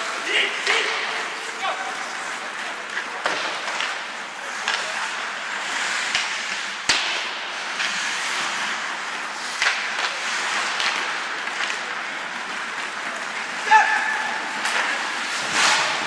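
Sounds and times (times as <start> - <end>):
hockey sticks and puck clacking: 0.0 - 16.0
skates hissing on ice: 0.0 - 16.0.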